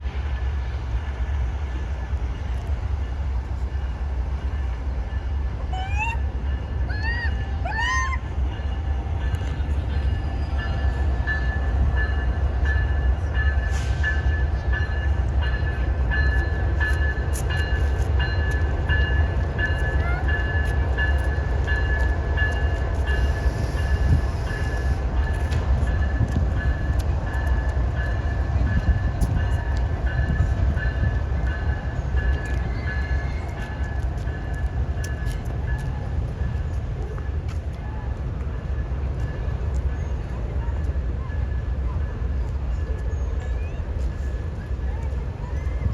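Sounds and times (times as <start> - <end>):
train rumbling past: 0.0 - 45.9.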